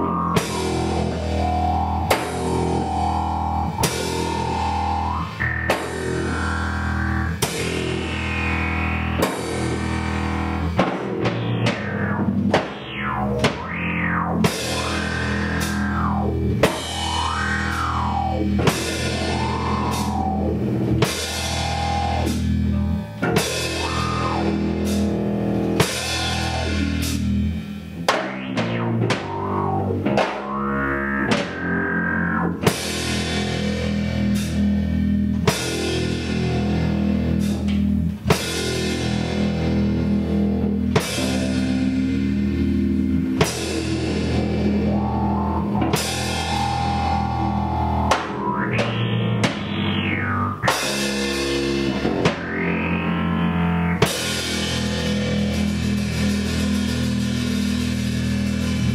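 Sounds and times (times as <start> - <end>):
distorted electric guitar riffing: 0.0 - 58.9
drum kit: 0.0 - 58.9.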